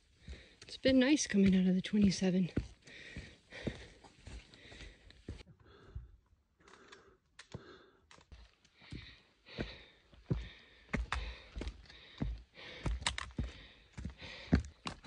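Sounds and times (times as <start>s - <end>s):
person breathing: 0.0s - 0.7s, 2.7s - 15.0s
footsteps on rocky trail: 0.0s - 5.5s, 7.4s - 15.0s.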